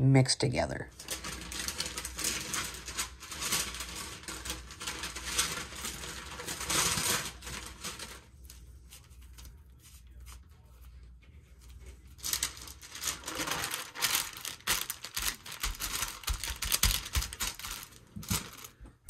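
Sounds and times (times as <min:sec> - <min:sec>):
parchment paper crinkling: 0:00.9 - 0:19.0.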